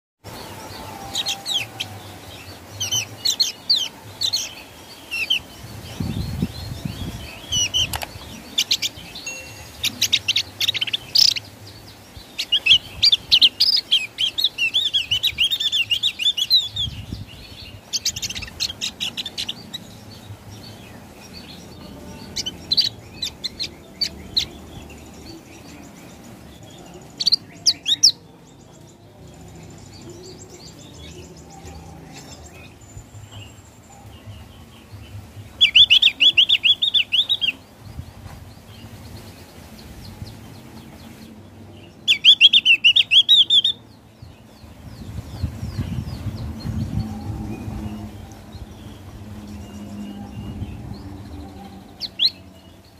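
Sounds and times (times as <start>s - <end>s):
bird singing high trills: 0.2s - 37.7s, 41.8s - 43.9s, 45.0s - 52.9s.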